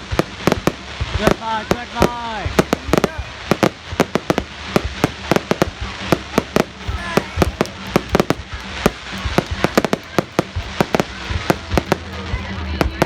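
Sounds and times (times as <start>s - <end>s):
continuous low rumble: 0.0s - 13.0s
fireworks bangs and cracks: 0.0s - 13.0s.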